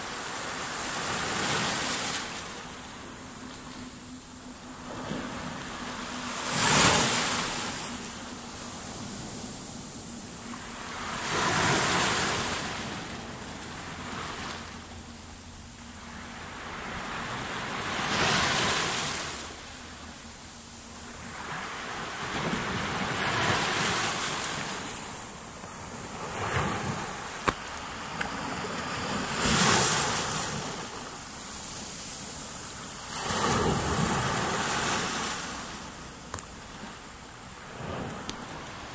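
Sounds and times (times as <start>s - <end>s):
small waves breaking on shore: 0.0s - 3.6s, 4.7s - 14.9s, 15.8s - 38.9s.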